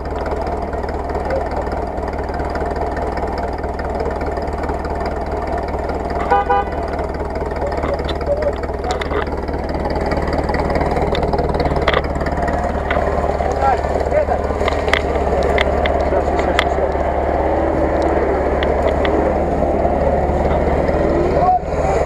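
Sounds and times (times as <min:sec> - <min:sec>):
engine running at low revs: 0:00.0 - 0:22.0.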